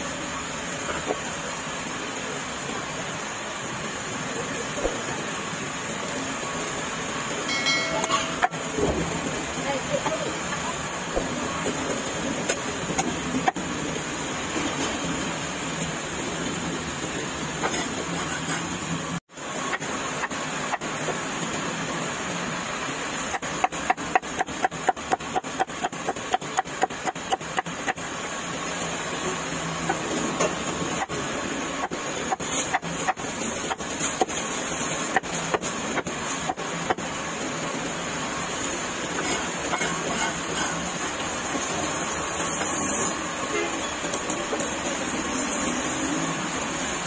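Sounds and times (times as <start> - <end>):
heavy rain hissing: 0.0 - 47.0.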